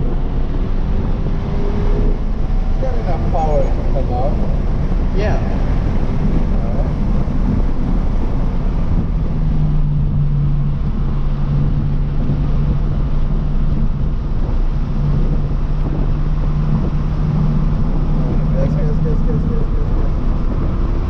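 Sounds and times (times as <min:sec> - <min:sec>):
car engine at high revs: 0:00.0 - 0:21.0
road and wind noise: 0:00.0 - 0:21.0.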